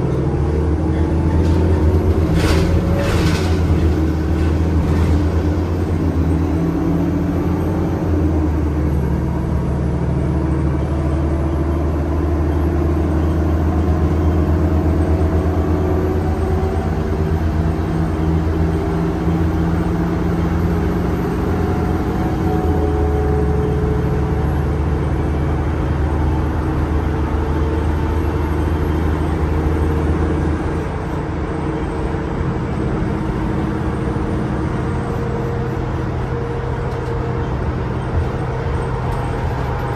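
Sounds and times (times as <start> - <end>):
bus engine low drone: 0.0 - 39.9
road noise: 0.0 - 39.9.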